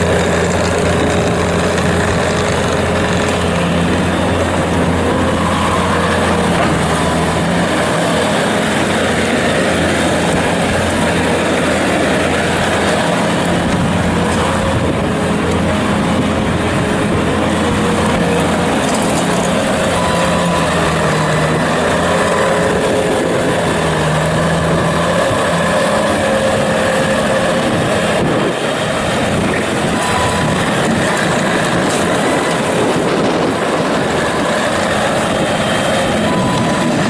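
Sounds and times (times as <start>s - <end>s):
skid steer diesel engine running: 0.0s - 37.0s.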